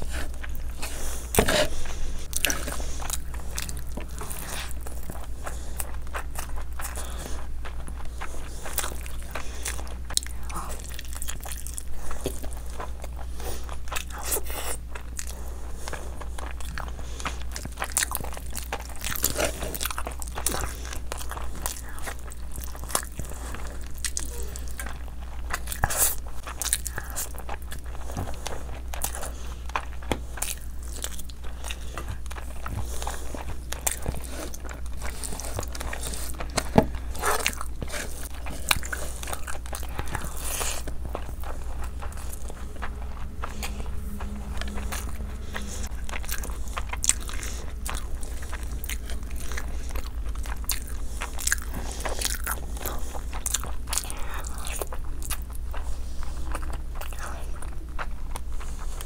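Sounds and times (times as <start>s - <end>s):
chewing and biting: 0.0s - 59.0s
low hum: 0.0s - 59.0s.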